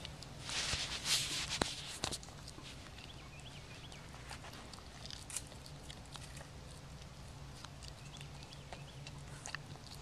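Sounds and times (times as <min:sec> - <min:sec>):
dog chewing dry dirt: 0:00.0 - 0:10.0.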